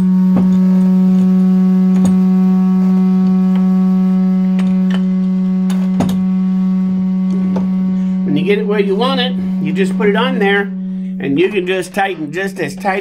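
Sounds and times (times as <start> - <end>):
loud low steady hum: 0.0 - 13.0.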